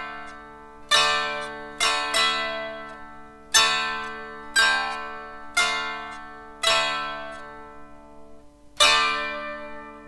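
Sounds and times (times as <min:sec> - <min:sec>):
dulcimer strummed chords: 0:00.0 - 0:10.0.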